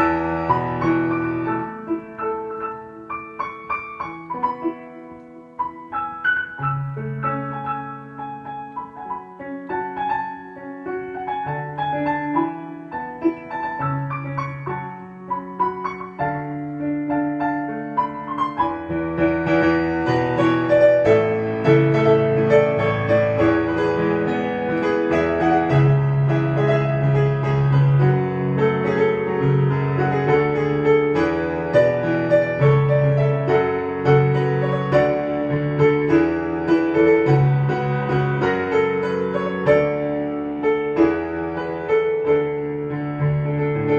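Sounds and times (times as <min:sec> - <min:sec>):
background piano music: 0:00.0 - 0:43.9.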